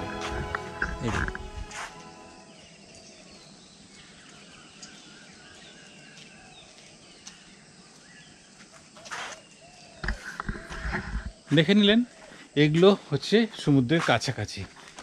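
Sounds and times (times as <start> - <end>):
outdoor background hiss: 0.0 - 15.0
small birds chirping: 2.4 - 15.0.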